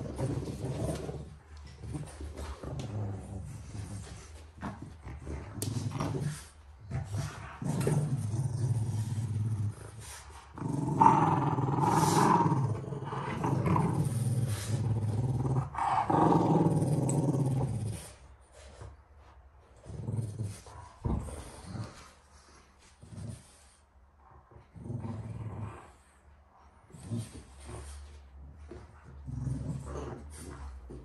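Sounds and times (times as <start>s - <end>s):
dogs growling in play: 0.0s - 31.0s.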